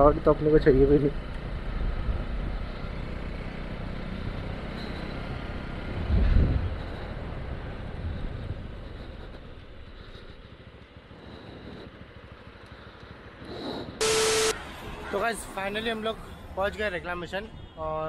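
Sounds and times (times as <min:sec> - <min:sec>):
motorcycle engine at low speed: 0:00.0 - 0:14.6
road and wind rumble: 0:00.0 - 0:17.8.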